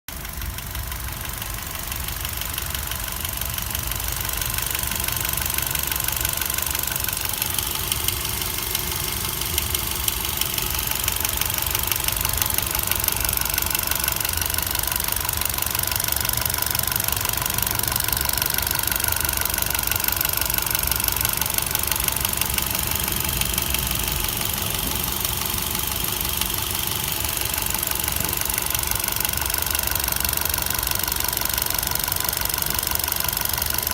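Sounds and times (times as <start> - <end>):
car engine running: 0.1 - 33.9
fast even engine ticking: 0.1 - 33.9.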